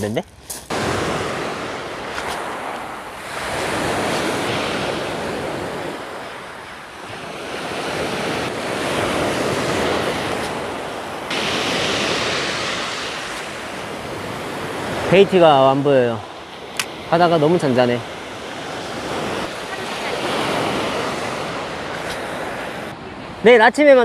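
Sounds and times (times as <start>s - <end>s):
wind buffeting microphone: 0.0s - 23.4s
sea waves washing in: 0.7s - 24.0s.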